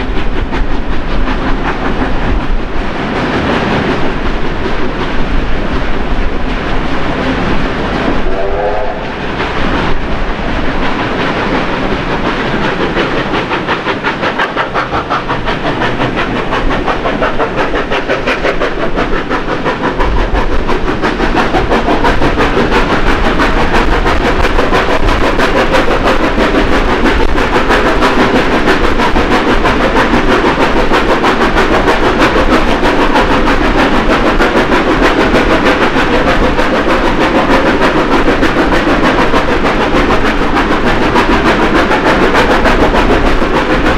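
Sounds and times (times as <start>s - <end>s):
steam locomotive exhaust beat: 0.0s - 43.9s
train wheel and running noise: 0.0s - 43.9s.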